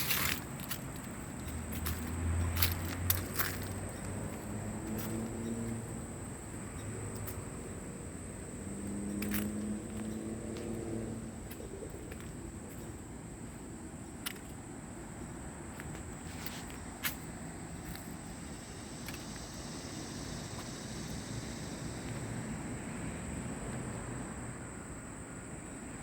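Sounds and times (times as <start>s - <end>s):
insects droning: 0.0s - 26.0s
passing traffic hum: 0.0s - 26.0s.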